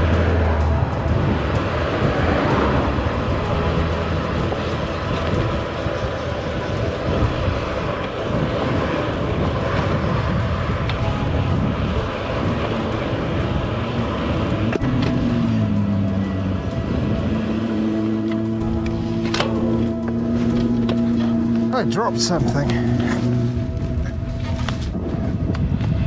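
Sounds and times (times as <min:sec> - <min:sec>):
bicycle tyres on tarmac: 0:00.0 - 0:26.0
wind buffeting microphone: 0:00.0 - 0:26.0.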